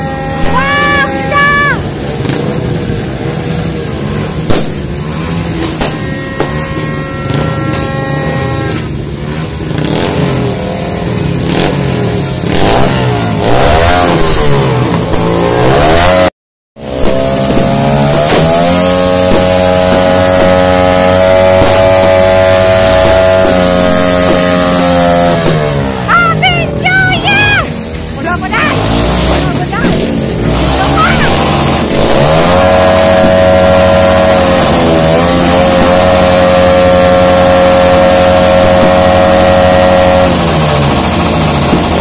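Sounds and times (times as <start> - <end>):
firework bangs: 0.0 - 16.1, 16.8 - 42.0
motorcycle engines revving: 0.0 - 42.0.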